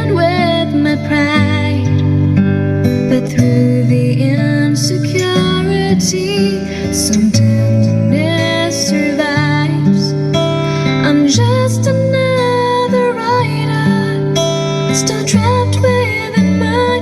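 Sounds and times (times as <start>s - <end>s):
slow ballad with acoustic guitar: 0.0s - 17.0s.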